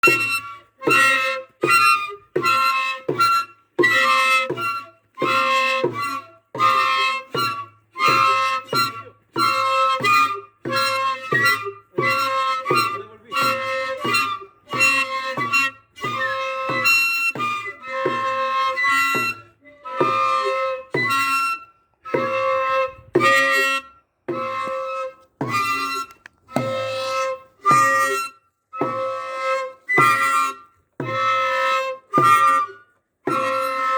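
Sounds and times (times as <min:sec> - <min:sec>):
cane flute blasts: 0:00.0 - 0:33.9.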